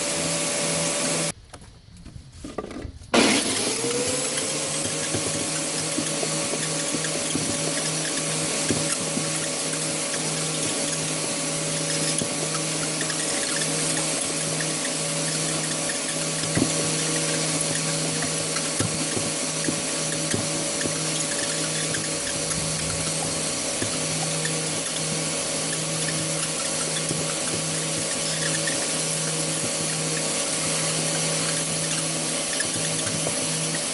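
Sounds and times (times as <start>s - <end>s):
shredder motor whine: 0.0s - 1.4s, 3.2s - 33.9s
blades grinding plastic: 3.2s - 33.9s.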